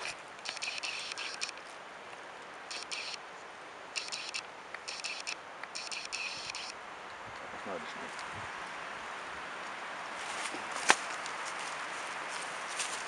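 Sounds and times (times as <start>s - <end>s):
dry grass and leaves rustling: 0.0s - 13.0s.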